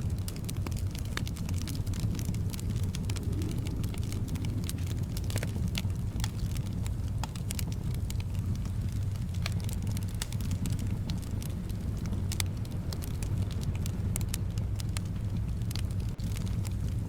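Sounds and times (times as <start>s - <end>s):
soft wind: 0.0s - 17.0s
wood fire crackling in fireplace: 0.0s - 17.0s.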